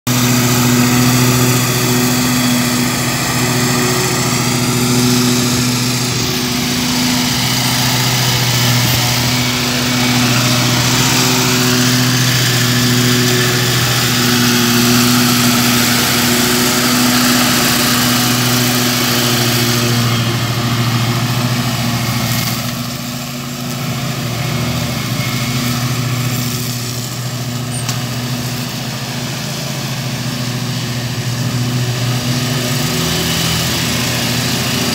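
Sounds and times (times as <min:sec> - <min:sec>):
mower engine hum: 0:00.0 - 0:34.9
mower blades hissing: 0:00.1 - 0:34.9.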